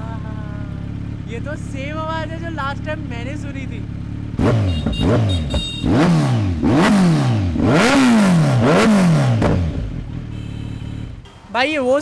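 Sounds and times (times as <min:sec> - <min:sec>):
motorcycle engine revving: 0:00.0 - 0:11.5.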